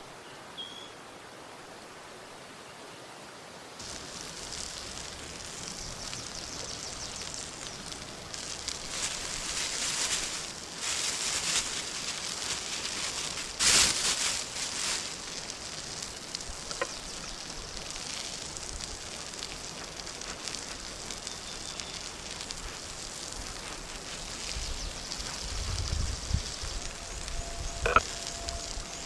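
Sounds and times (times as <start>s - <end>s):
campfire crackling and sizzling: 3.8s - 29.0s.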